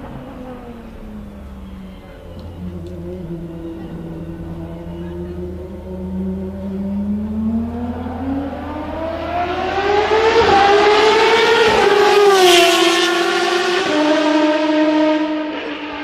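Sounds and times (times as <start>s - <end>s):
race car engine passing by: 0.0s - 16.0s.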